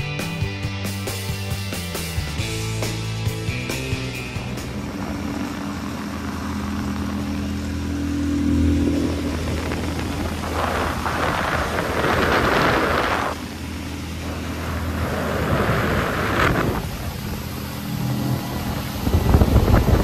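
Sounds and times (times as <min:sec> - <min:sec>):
outboard motor running: 0:00.7 - 0:20.0
rushing noise: 0:02.2 - 0:20.0.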